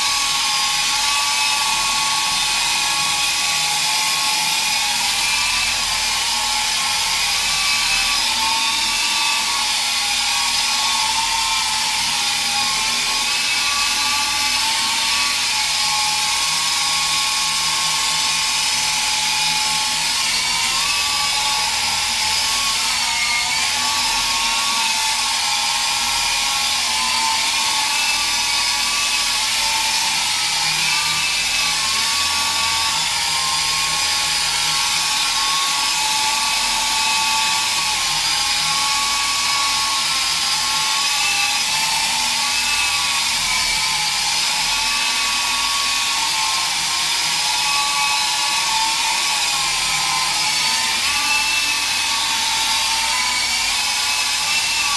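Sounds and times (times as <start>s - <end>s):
rc helicopter motor whine: 0.0s - 54.9s.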